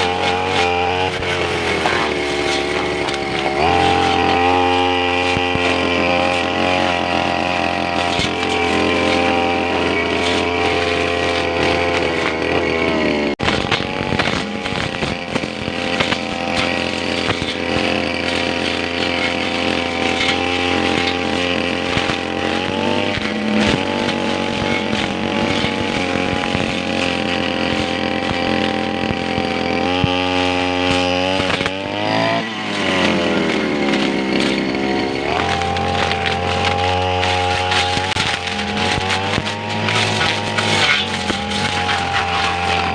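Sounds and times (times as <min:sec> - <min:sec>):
brush cutter engine cutting grass: 0:00.0 - 0:42.9.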